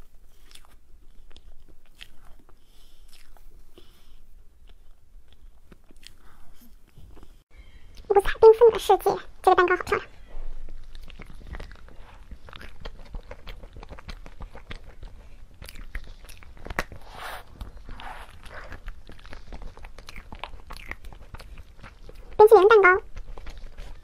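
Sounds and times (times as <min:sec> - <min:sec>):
person chewing cake: 0:00.0 - 0:07.5, 0:10.2 - 0:24.0.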